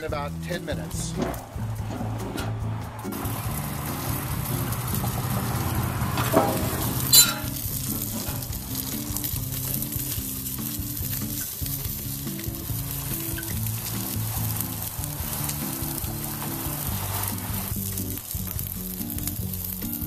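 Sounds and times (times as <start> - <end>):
corn sizzling on a grill: 0.0 - 20.0.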